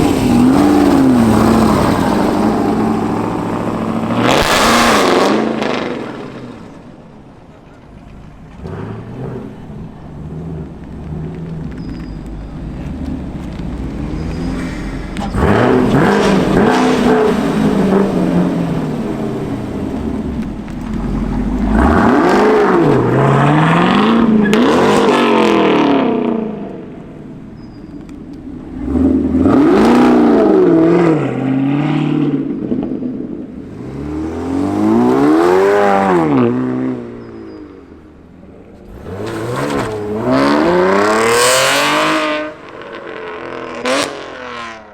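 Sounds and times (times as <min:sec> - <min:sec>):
car engine revving: 0:00.0 - 0:06.8, 0:08.3 - 0:32.8, 0:33.6 - 0:37.5, 0:38.2 - 0:44.9.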